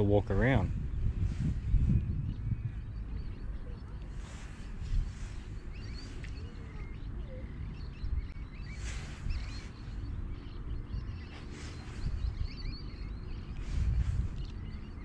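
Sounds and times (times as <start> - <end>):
small birds chirping: 0.0 - 15.0
wind buffeting the microphone: 0.0 - 15.0.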